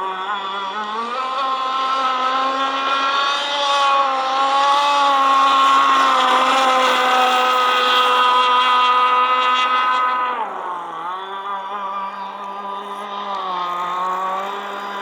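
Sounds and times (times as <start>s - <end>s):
model powerboat motor: 0.0s - 15.0s.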